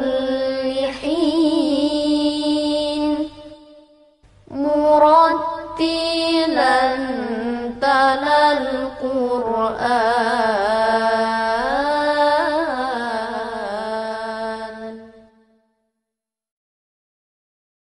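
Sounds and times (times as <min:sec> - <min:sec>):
solo voice chanting: 0:00.0 - 0:15.4.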